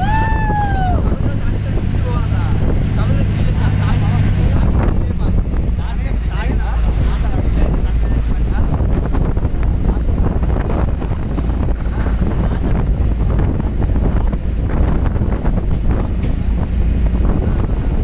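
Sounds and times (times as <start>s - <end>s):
motorboat running: 0.0s - 18.0s
wind buffeting microphone: 0.0s - 18.0s.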